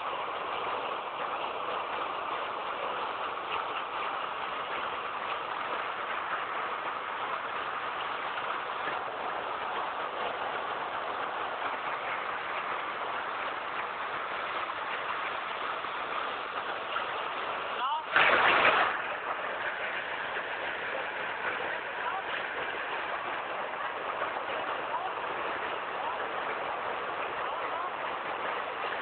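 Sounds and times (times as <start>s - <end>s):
conveyor machine noise: 0.0s - 29.0s.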